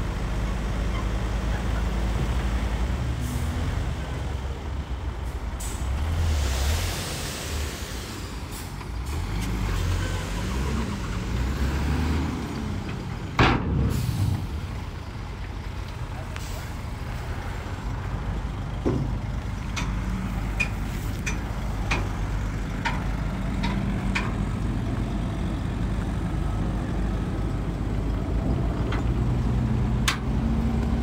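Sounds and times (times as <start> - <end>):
heavy diesel machinery engine: 0.0 - 31.0.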